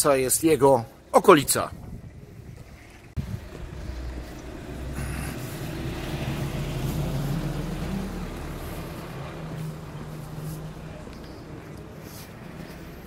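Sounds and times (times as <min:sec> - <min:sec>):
outdoor background noise: 0:00.0 - 0:13.0
low engine hum: 0:01.9 - 0:13.0.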